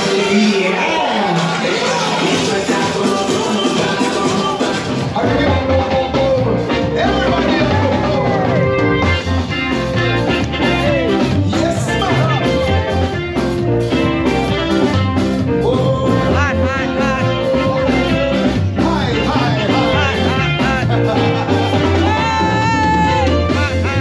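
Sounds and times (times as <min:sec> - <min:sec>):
live band playing dance music: 0:00.0 - 0:24.0.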